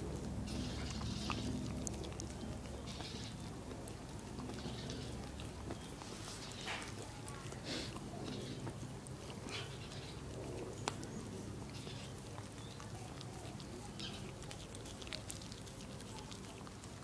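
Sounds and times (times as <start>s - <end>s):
dog licking lollipop: 0.0s - 17.0s.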